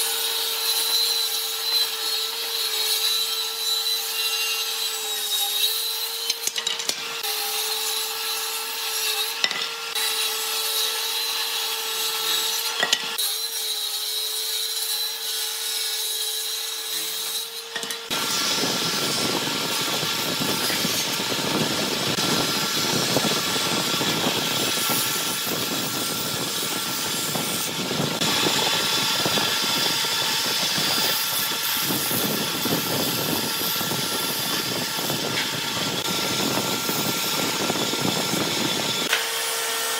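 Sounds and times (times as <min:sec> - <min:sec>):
jointer planing a board: 0:00.0 - 0:39.9
table saw ripping a board: 0:00.0 - 0:39.9.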